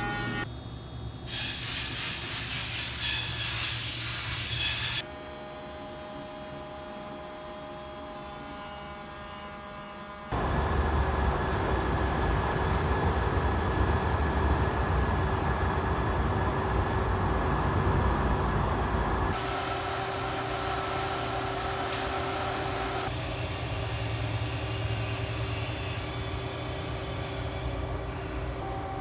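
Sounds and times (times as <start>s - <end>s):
machine running with humming whine: 5.1s - 29.0s.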